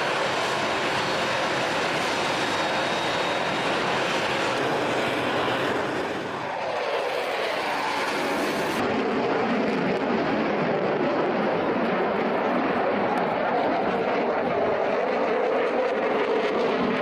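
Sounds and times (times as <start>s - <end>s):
fighter jet engine roar: 0.0s - 17.0s.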